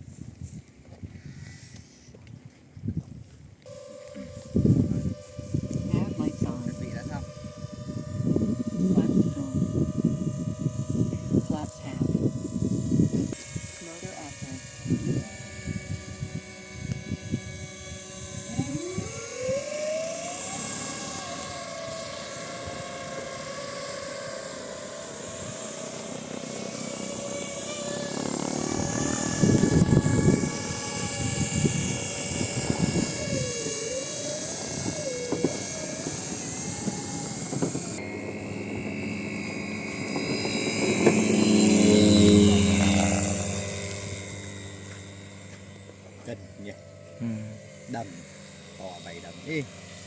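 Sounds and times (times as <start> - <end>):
model plane propeller motors whining: 0.0 - 50.0.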